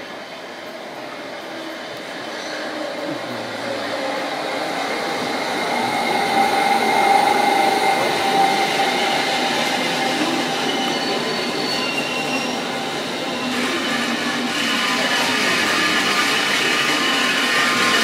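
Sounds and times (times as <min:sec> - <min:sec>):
steady train whine: 0:00.0 - 0:18.0
train wheels rumbling on rails: 0:00.0 - 0:18.0.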